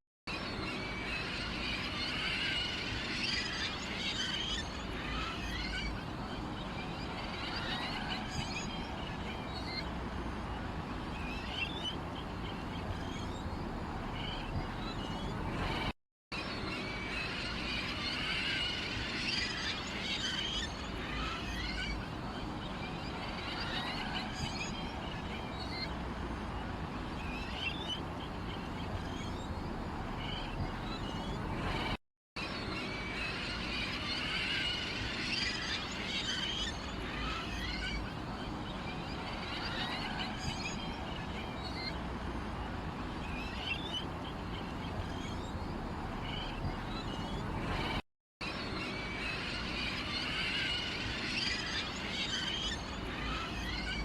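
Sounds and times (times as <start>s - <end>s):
songbirds chirping and trilling: 0.3s - 54.0s.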